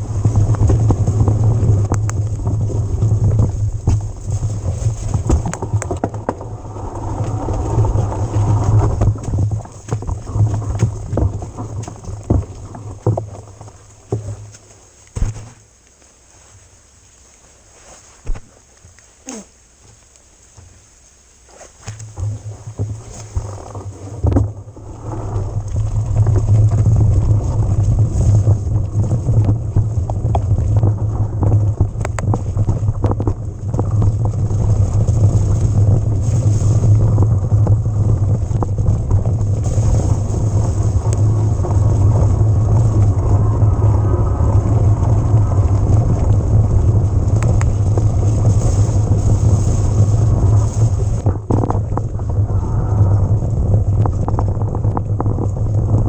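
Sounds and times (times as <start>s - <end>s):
wind rumble on microphone: 0.0s - 15.8s, 20.4s - 56.0s
tyre and trail noise: 0.0s - 56.0s.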